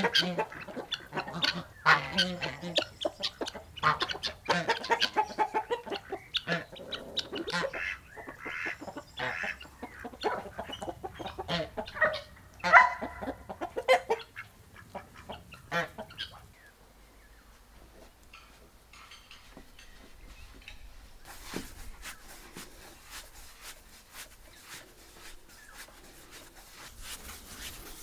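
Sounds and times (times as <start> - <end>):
chickens clucking: 0.0 - 23.2.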